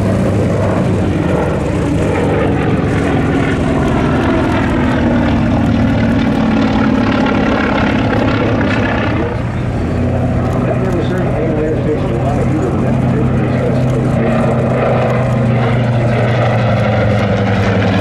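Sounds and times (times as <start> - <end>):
propeller drone: 0.0 - 18.0.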